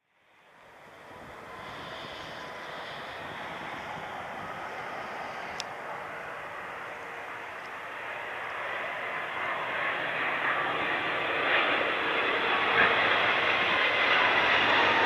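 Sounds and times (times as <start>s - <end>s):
jet engines rushing and whining: 0.2s - 15.0s.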